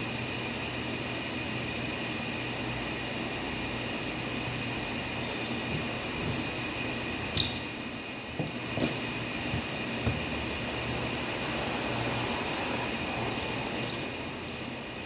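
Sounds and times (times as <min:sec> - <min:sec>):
mechanical hum with high whine: 0:00.0 - 0:15.0.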